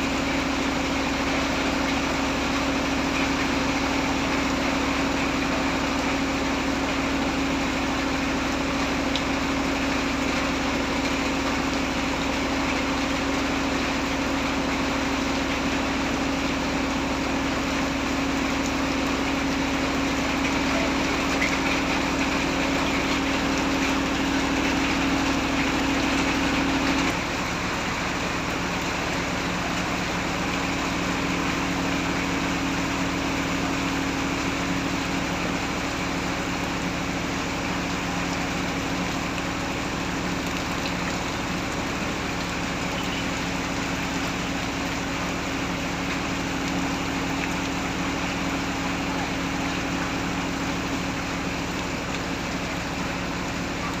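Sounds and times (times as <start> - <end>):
heavy rain hissing: 0.0 - 54.0
low mechanical hum: 0.0 - 54.0.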